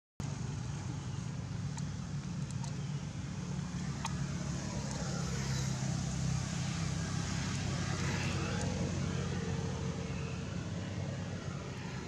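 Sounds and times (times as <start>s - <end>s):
low motor hum: 0.2s - 12.0s.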